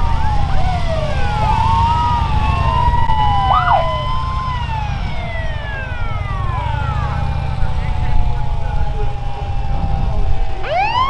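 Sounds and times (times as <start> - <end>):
emergency sirens wailing: 0.0 - 11.0.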